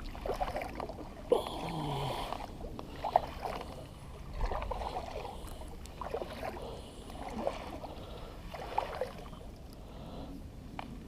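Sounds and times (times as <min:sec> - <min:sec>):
paddle strokes splashing water: 0:00.0 - 0:11.0.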